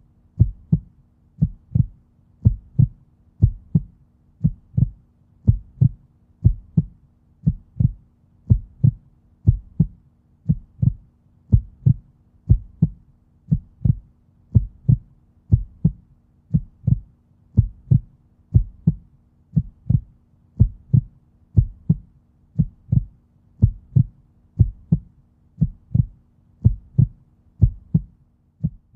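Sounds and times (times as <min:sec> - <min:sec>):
faint steady hum: 0:00.0 - 0:28.9
heartbeat thumps: 0:00.4 - 0:28.9.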